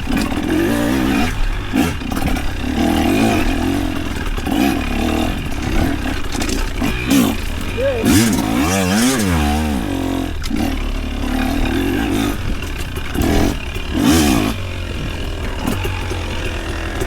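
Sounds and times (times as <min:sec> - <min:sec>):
clatter and scraping over rough ground: 0:00.0 - 0:17.0
off-road vehicle engine revving: 0:00.0 - 0:17.0.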